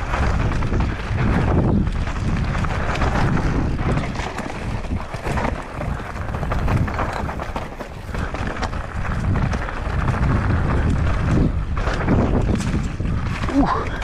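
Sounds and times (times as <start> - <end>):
bike rattling over rocky trail: 0.0 - 14.0
wind buffeting microphone: 0.0 - 14.0.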